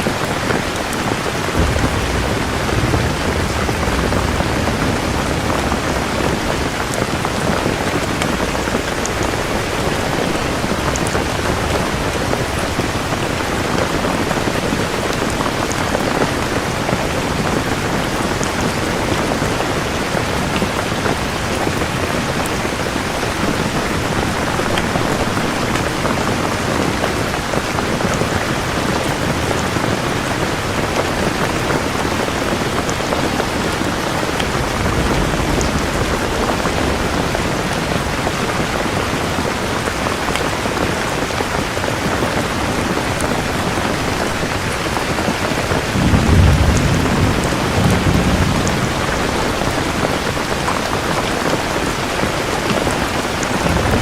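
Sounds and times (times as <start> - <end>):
heavy rain falling: 0.0 - 54.0
distant thunder rumble: 0.2 - 26.5, 30.6 - 54.0.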